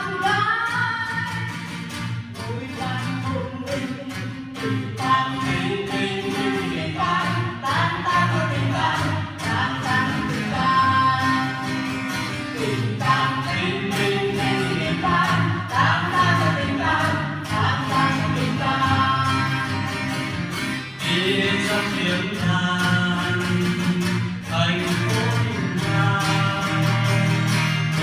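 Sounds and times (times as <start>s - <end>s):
person singing: 0.0s - 20.3s, 21.0s - 28.0s.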